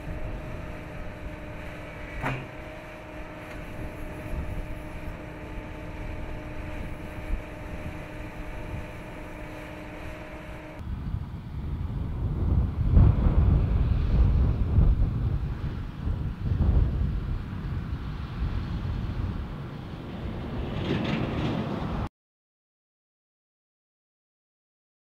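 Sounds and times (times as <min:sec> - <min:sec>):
diesel engine drone: 0:00.0 - 0:22.1
wind rumbling on microphone: 0:00.0 - 0:22.1.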